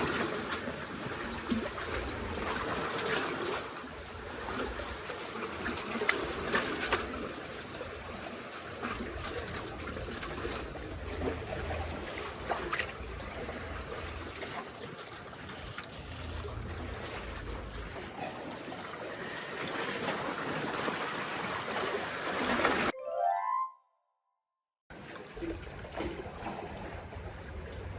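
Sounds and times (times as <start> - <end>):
seawater sloshing among concrete blocks: 0.0 - 22.9, 24.9 - 27.9.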